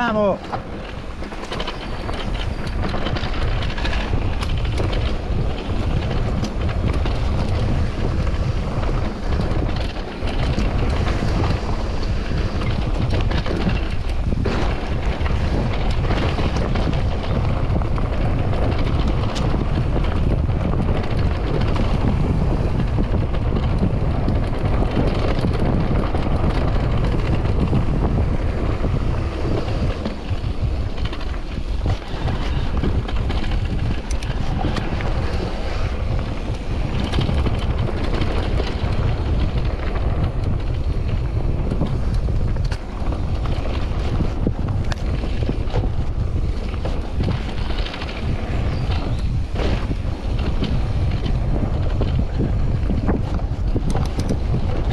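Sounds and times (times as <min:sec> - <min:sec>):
bike clicks and rattles: 0:00.0 - 0:54.9
wind buffeting microphone: 0:00.0 - 0:54.9.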